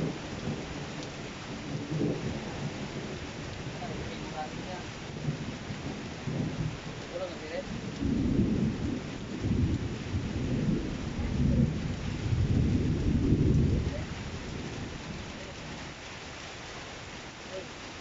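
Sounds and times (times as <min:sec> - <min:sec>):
thunder rumbling: 0:00.0 - 0:16.3
steady rain: 0:00.0 - 0:18.0.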